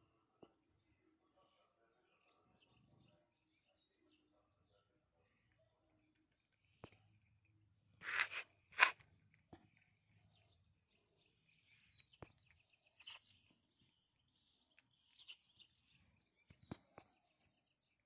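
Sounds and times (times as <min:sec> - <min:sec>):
faint bird chirps: 0:00.0 - 0:07.7, 0:09.6 - 0:18.0.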